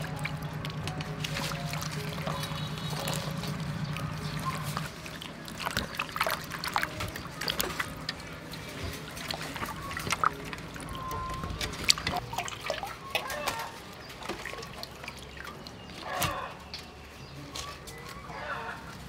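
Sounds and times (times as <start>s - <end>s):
water splashing in metal basin: 0.0s - 16.9s.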